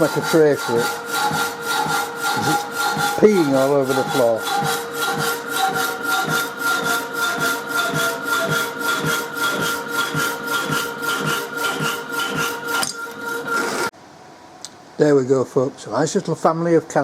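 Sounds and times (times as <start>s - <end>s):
hacksaw strokes cutting metal: 0.0s - 13.9s.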